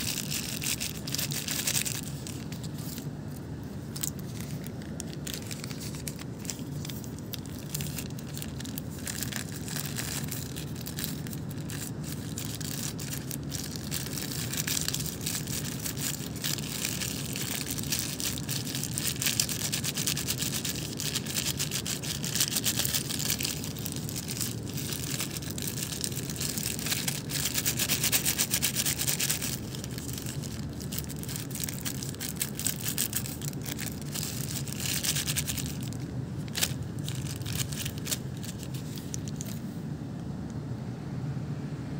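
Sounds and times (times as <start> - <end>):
plastic bag crinkling: 0.0 - 39.7
steady low hum: 0.0 - 41.9.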